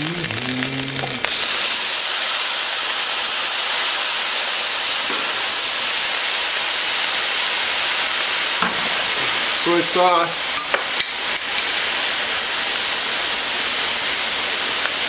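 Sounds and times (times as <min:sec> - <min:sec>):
rice sizzling in a hot wok: 0:00.0 - 0:15.0.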